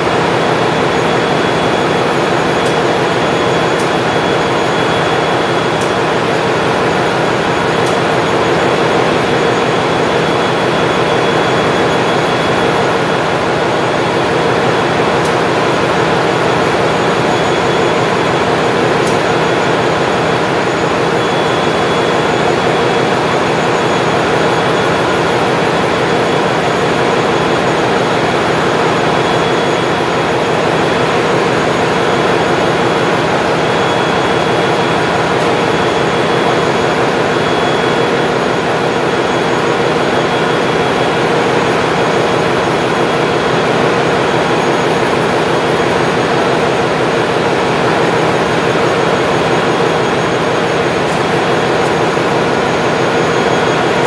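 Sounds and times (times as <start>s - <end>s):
engine room machinery drone: 0.0s - 54.0s
high whine: 0.0s - 54.0s.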